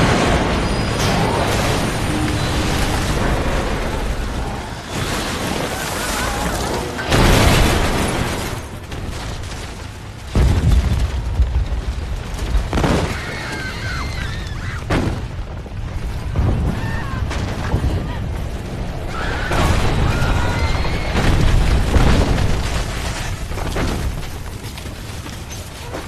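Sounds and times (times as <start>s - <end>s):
heavy booming crashes: 0.0s - 24.7s
deep rumble of collapsing buildings: 0.0s - 26.0s.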